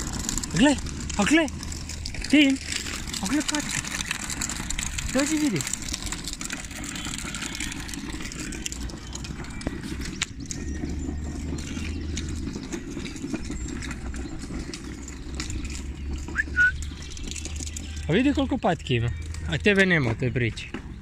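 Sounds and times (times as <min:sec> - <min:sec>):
wind buffeting microphone: 0:00.0 - 0:18.2.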